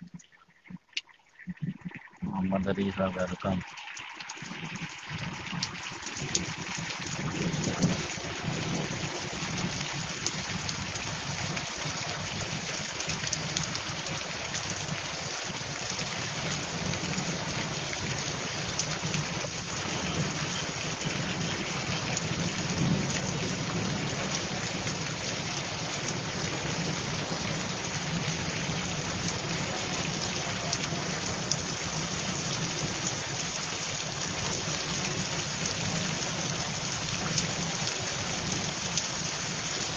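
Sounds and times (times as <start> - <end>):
heavy rain on pavement: 2.6 - 39.9.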